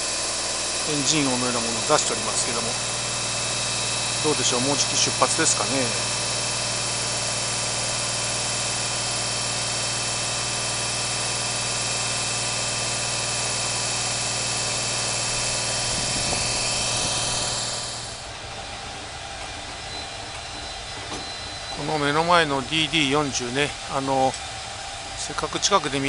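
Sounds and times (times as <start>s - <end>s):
electric locomotive humming and whirring: 0.0s - 26.0s.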